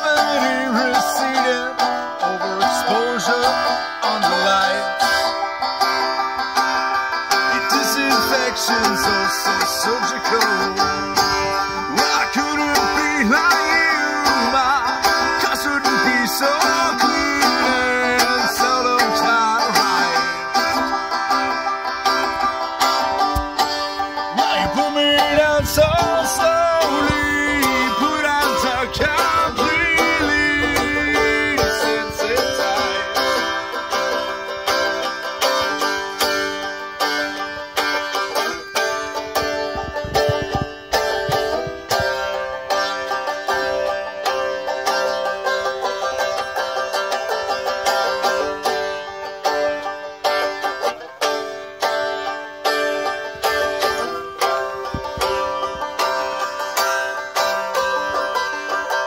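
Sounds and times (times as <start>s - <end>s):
banjo picking: 0.0s - 59.0s.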